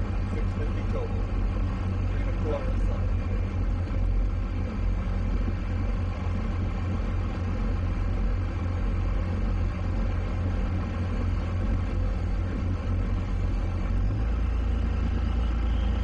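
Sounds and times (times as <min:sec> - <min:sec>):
boat engines rumbling: 0:00.0 - 0:16.0.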